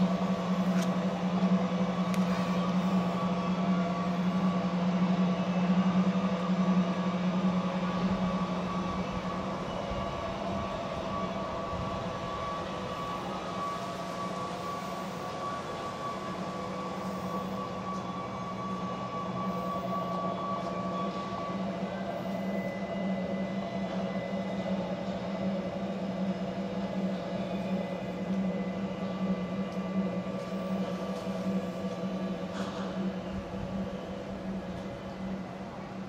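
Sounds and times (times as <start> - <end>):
model locomotive hum and whine: 0.0 - 36.0.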